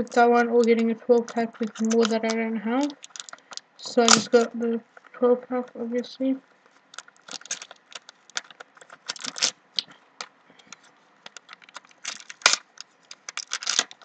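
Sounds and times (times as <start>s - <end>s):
plastic toy clicks and crinkles: 0.0s - 4.6s, 6.4s - 14.0s.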